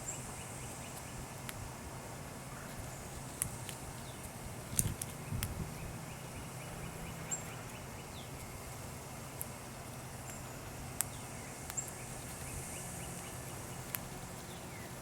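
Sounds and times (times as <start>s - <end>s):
bird chirp: 0.0s - 1.5s, 2.5s - 8.6s, 9.5s - 15.0s.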